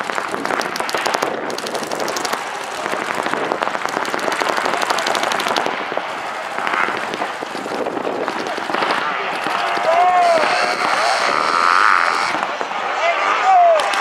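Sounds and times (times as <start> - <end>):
paintball guns firing: 0.0 - 12.8.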